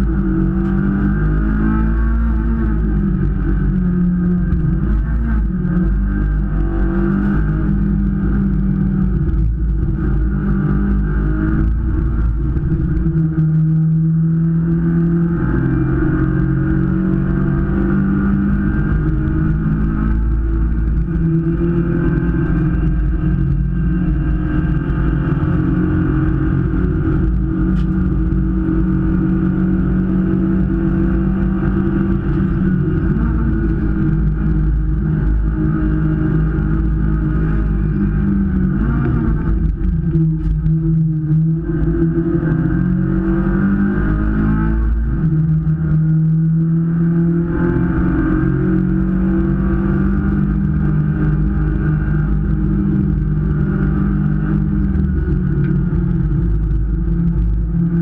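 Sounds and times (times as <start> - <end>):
race car engine: 0.0 - 58.0.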